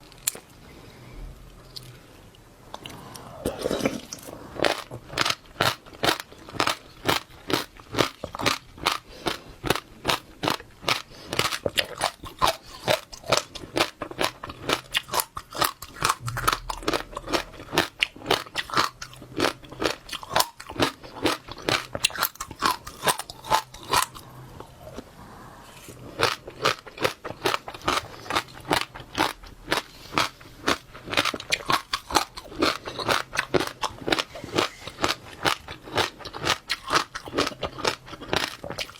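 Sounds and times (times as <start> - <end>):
chewing crunchy seeds: 2.7 - 25.1, 26.0 - 38.9.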